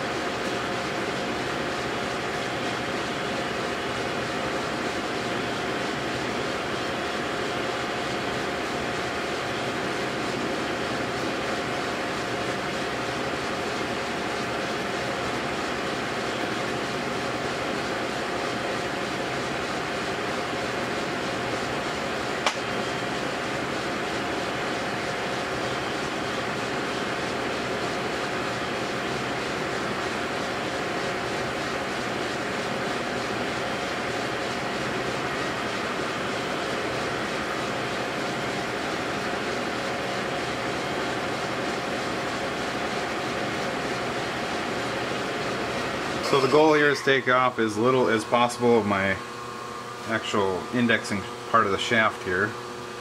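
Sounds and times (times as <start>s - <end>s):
metal lathe running: 0.0s - 53.0s.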